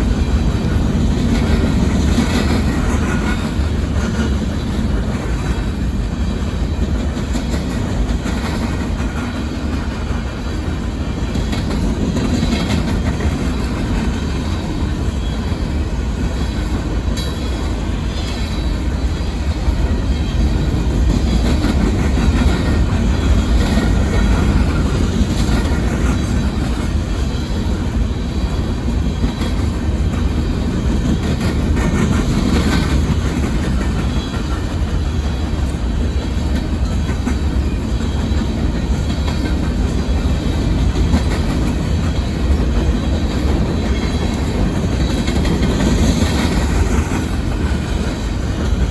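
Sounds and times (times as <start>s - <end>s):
train cars rumbling: 0.0s - 48.9s
wheels clacking over rail joints: 0.0s - 48.9s.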